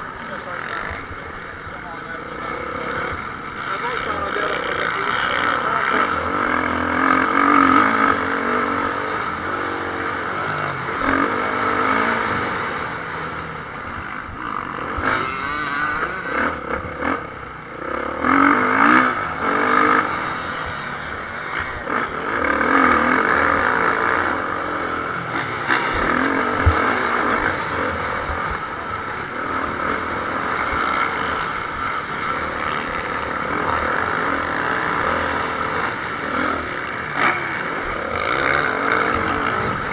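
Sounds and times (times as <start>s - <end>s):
motocross motorcycle engines revving: 0.0s - 39.9s.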